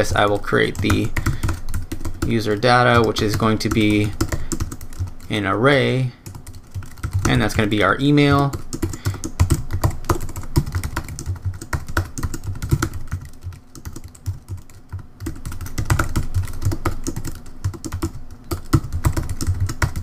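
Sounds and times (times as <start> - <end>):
typing on computer keyboard: 0.0 - 5.4, 6.2 - 20.0.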